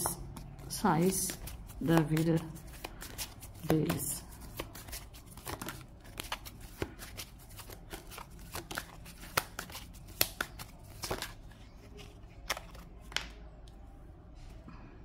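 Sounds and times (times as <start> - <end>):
cards being shuffled: 0.0 - 13.4.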